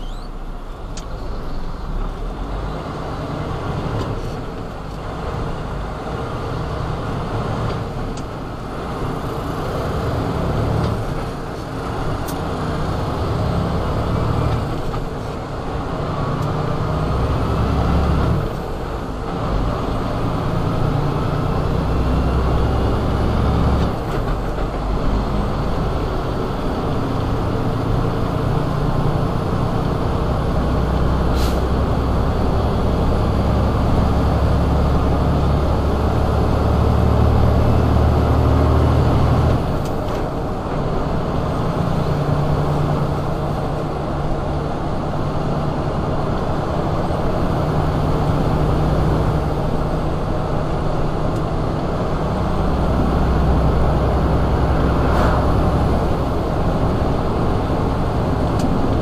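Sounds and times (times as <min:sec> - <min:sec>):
diesel truck engine drone: 0:00.0 - 0:59.0
road noise: 0:00.0 - 0:59.0.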